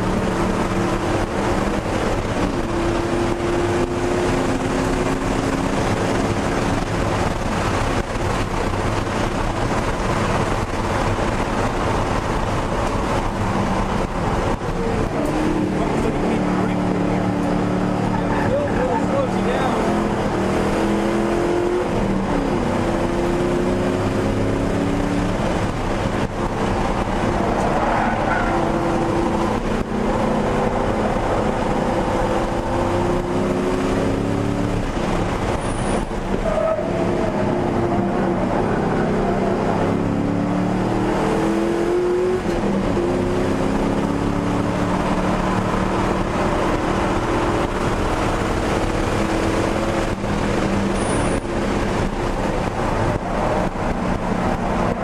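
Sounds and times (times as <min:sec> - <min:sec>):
car engine accelerating: 0:00.0 - 0:55.0
road and wind noise: 0:00.0 - 0:55.0.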